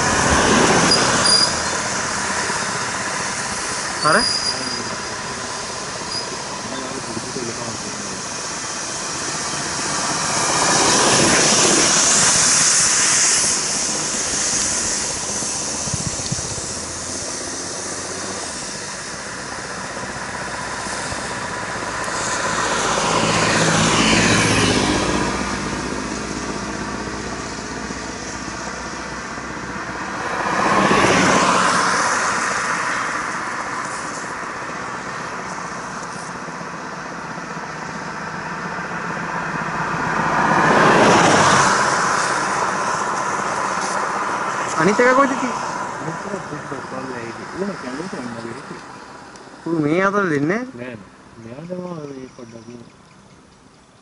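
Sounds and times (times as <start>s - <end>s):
tyres hissing on wet road: 0.0s - 53.7s
vehicles passing: 0.0s - 54.0s.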